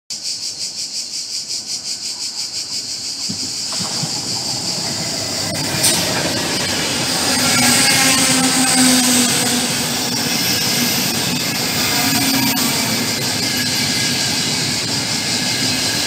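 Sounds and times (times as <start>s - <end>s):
rail hiss pulsing: 0.2s - 16.0s
high-speed train passing: 2.5s - 16.0s.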